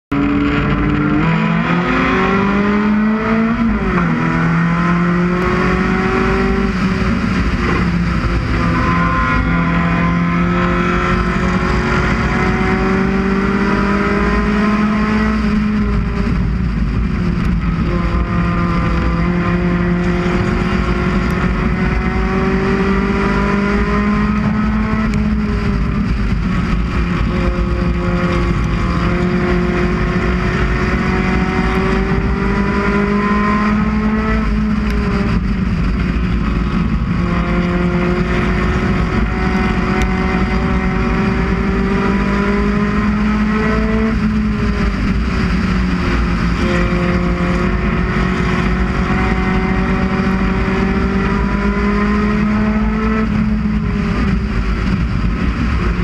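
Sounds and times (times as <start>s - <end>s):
race car engine at high revs: 0.0s - 56.0s
low rushing noise: 0.1s - 56.0s.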